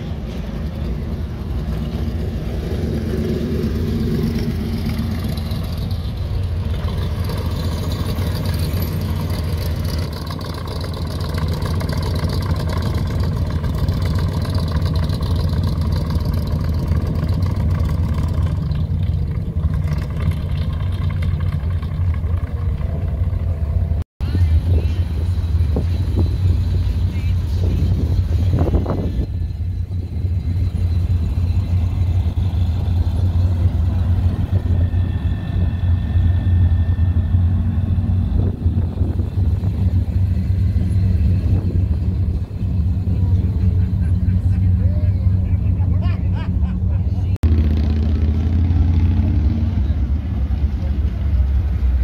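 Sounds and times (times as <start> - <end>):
car engine revving: 0.0 - 52.0
sports car engines rumbling: 0.0 - 52.0.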